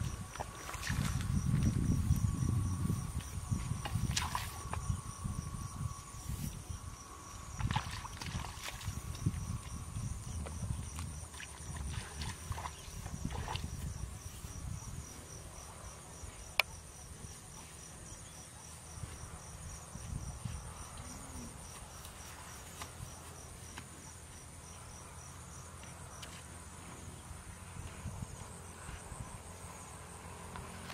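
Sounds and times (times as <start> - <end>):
insects trilling: 0.0 - 26.2.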